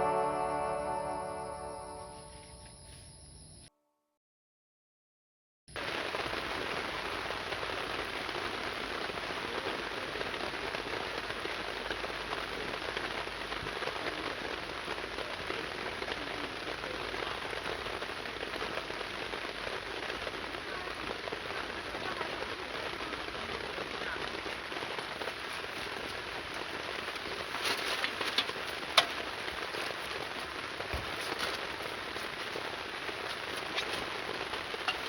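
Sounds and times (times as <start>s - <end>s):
heavy rain falling: 5.8s - 35.0s.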